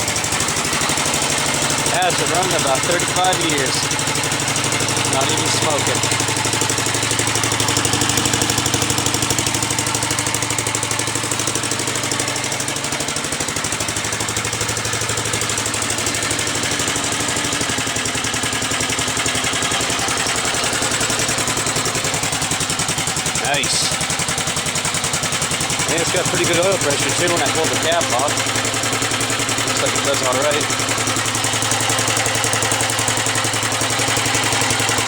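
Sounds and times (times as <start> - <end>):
single-cylinder engine running: 0.0 - 35.0.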